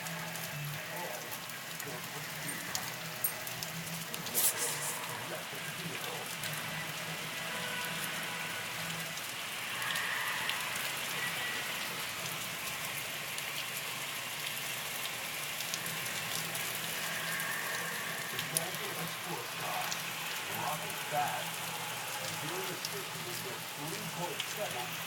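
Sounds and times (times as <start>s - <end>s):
rain drops ticking: 0.0s - 25.0s
steady rain falling: 0.0s - 25.0s.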